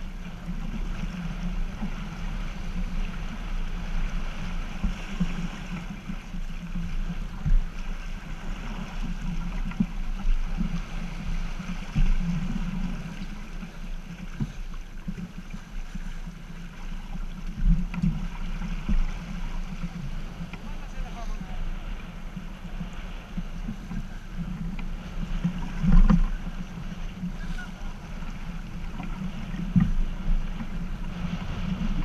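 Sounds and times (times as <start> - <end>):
water rushing along hull: 0.0 - 32.0
wind: 0.0 - 32.0.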